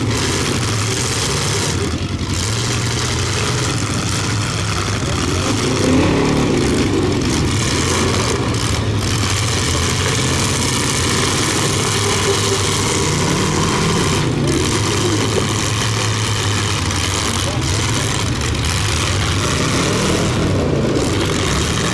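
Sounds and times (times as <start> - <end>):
car engines revving: 0.0 - 21.9.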